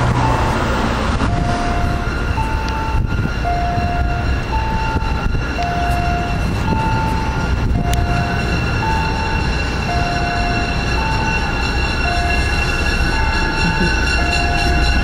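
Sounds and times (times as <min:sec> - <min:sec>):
diesel train engine rumble: 0:00.0 - 0:15.0
two-note electronic warning tone: 0:00.1 - 0:15.0.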